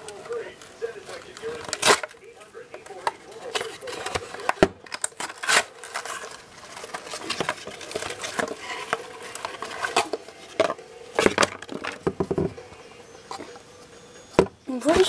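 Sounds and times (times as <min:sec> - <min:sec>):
hands handling plastic clock: 0:00.0 - 0:13.7.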